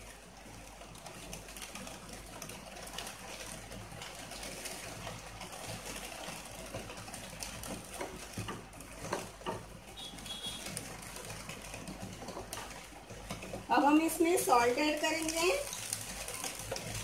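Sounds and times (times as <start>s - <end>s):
sauce simmering: 0.0s - 17.0s.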